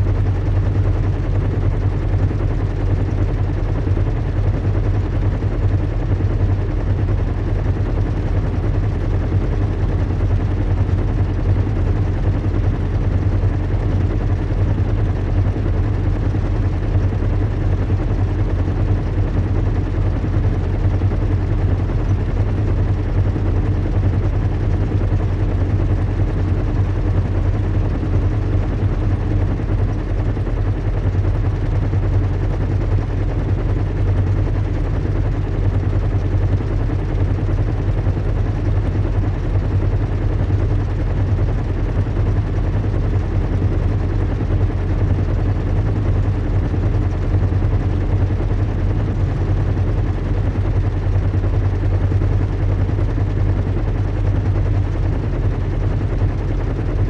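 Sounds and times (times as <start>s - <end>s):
deep engine hum with flutter: 0.0s - 57.0s.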